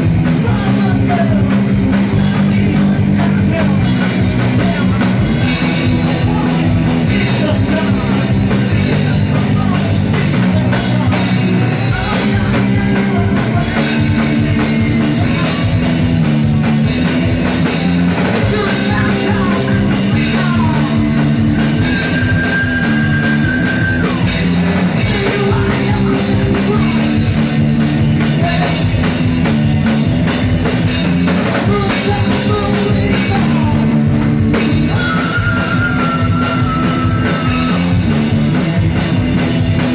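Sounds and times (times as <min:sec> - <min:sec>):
electric guitar lead line: 0:00.0 - 0:39.9
rock band playing loudly: 0:00.0 - 0:39.9.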